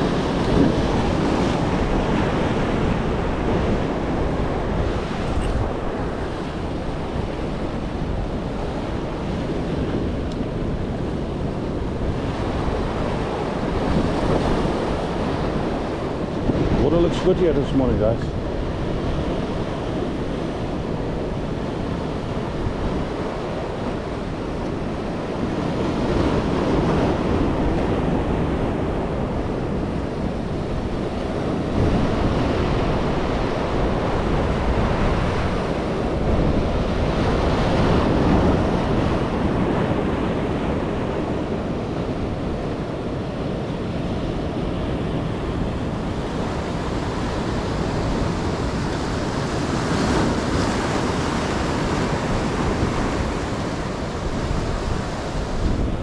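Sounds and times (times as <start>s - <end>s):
ocean surf breaking: 0.0s - 56.0s
wind noise on microphone: 0.0s - 56.0s.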